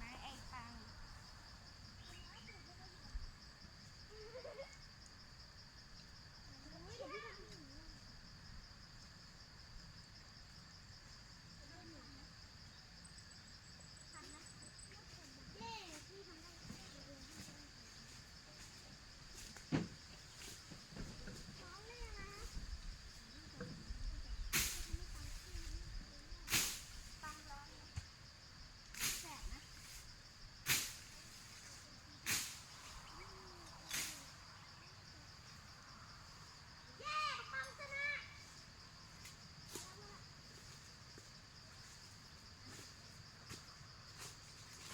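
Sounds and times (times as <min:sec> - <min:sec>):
insect trill: 0:00.0 - 0:44.9.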